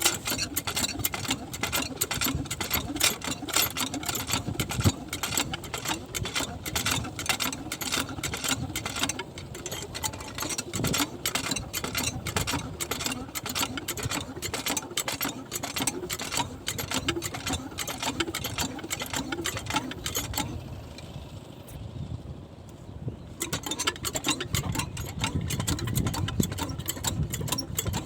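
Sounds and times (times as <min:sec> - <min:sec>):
small diesel engine clattering: 0:00.0 - 0:21.7, 0:23.4 - 0:28.0.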